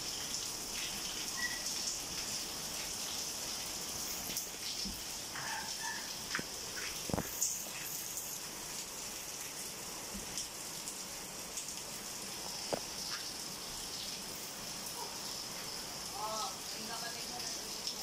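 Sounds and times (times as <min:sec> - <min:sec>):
raindrops ticking close by: 0:00.0 - 0:18.0
steady rain falling: 0:00.0 - 0:18.0.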